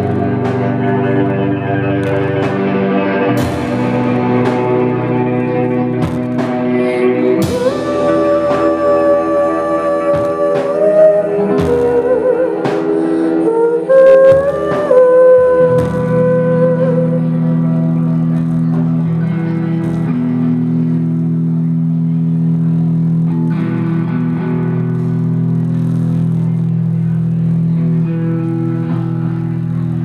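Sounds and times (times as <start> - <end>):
live rock band playing: 0.0 - 30.0
sliding lead guitar note: 0.0 - 30.0.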